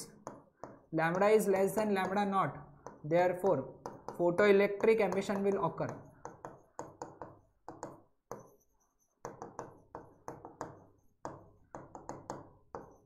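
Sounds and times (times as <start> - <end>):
stylus tapping on screen: 0.0 - 13.0.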